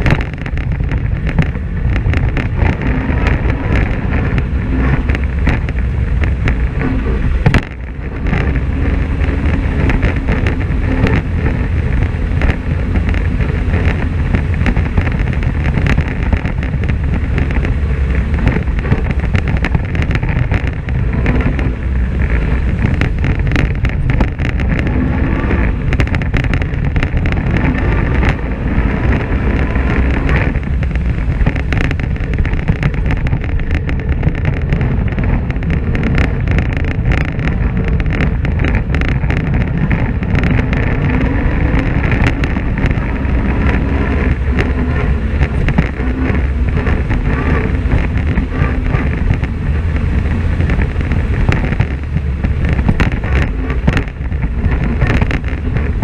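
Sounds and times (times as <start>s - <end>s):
off-road vehicle engine running: 0.0s - 56.0s
tyres clicking on gravel: 0.0s - 56.0s
wind noise on microphone: 0.0s - 56.0s.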